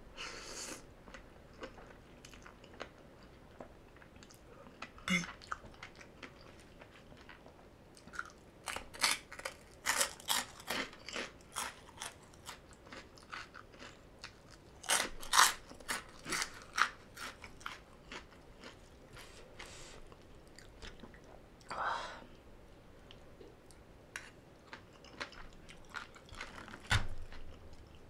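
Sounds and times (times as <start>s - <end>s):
crunching and chewing crisp food: 0.6s - 21.7s, 23.1s - 28.0s.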